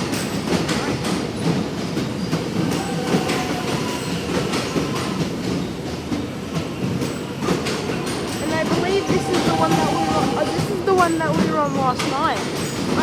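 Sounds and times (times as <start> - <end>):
train rumble: 0.0 - 13.0
train wheels clicking over joints: 0.0 - 13.0.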